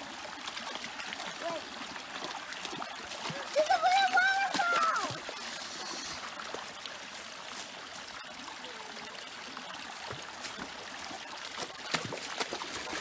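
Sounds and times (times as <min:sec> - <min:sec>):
creek trickling: 0:00.0 - 0:13.0.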